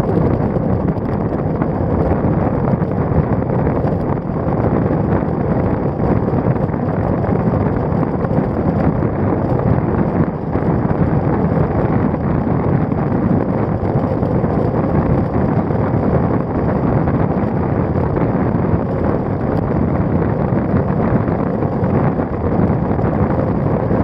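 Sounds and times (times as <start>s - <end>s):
wind noise on microphone: 0.0s - 24.0s.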